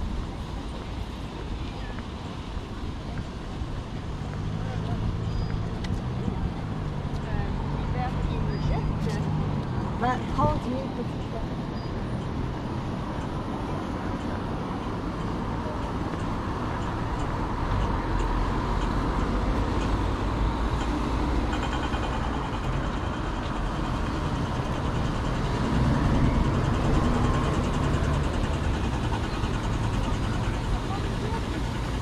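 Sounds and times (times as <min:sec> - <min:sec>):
vehicles driving past: 0:00.0 - 0:32.0.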